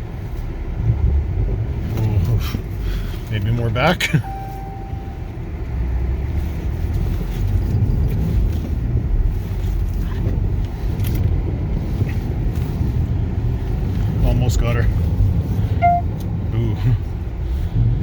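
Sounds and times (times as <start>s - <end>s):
car engine rumbling under load: 0.0s - 18.0s.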